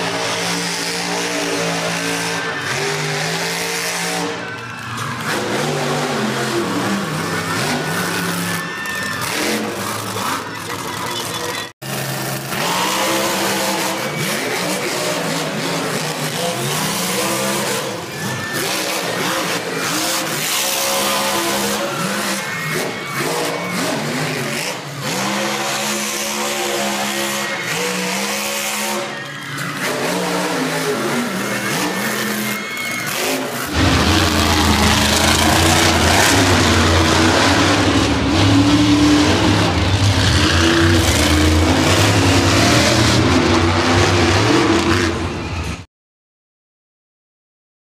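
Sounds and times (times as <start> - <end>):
truck engine revving: 0.0 - 45.8.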